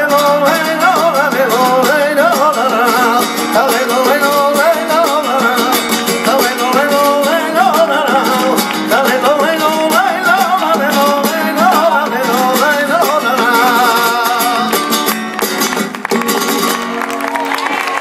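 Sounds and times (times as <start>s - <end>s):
man singing: 0.0s - 15.2s
flamenco guitar: 0.0s - 18.0s
rhythmic hand-clapping: 0.2s - 18.0s.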